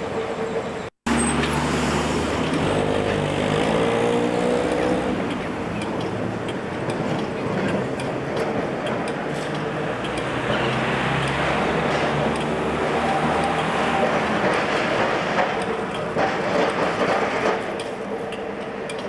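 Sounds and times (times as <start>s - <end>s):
electric tram hum and whine: 0.0s - 19.0s.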